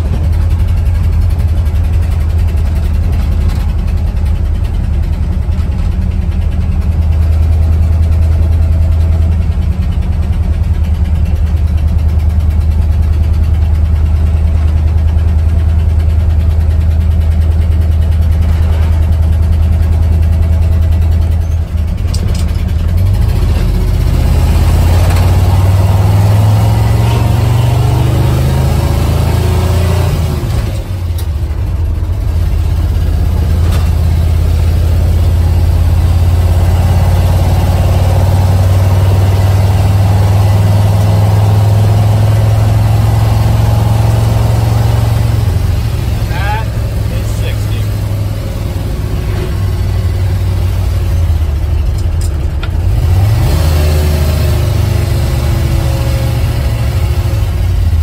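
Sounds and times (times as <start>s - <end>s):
truck engine accelerating: 0.0s - 58.0s.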